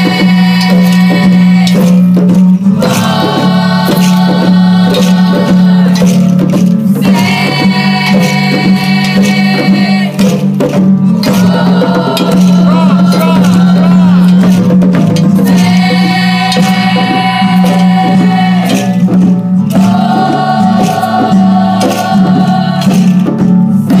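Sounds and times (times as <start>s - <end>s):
children's choir singing: 0.0s - 10.3s, 11.2s - 24.0s
rhythmic hand clapping: 0.0s - 24.0s.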